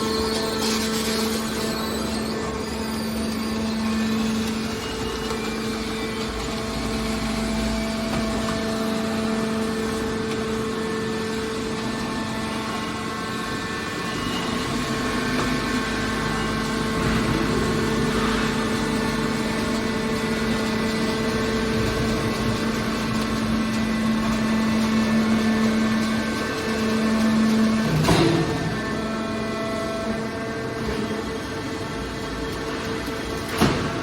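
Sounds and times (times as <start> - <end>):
electric pump motor humming: 0.0 - 34.0.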